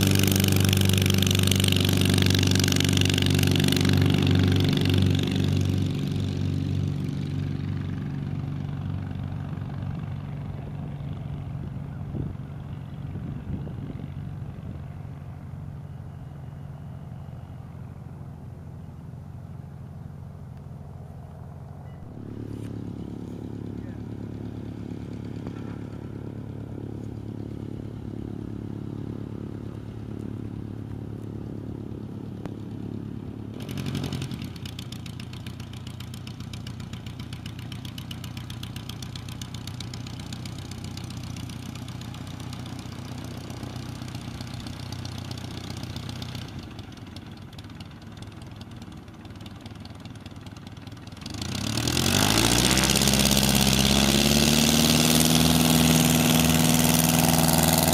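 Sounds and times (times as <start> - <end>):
propeller engine idling: 0.0 - 57.9.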